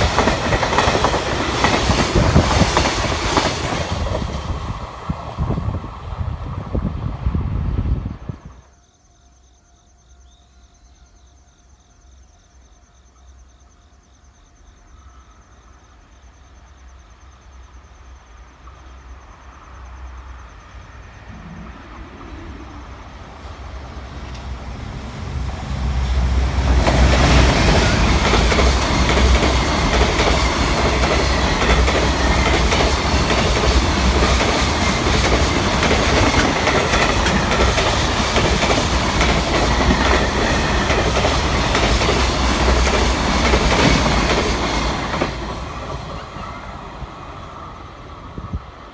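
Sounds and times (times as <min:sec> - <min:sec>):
freight train rumble: 0:00.0 - 0:08.7, 0:18.2 - 0:48.9.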